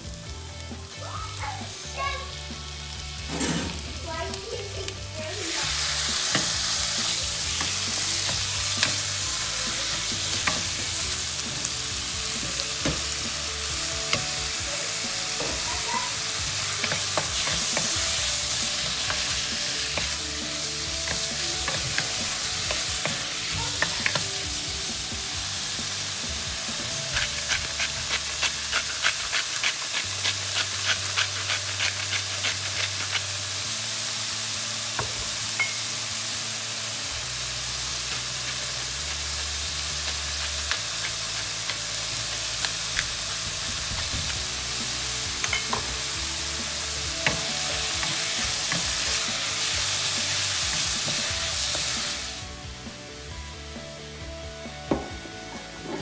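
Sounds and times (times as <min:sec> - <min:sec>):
chicken and onion sizzling: 0:00.0 - 0:56.0.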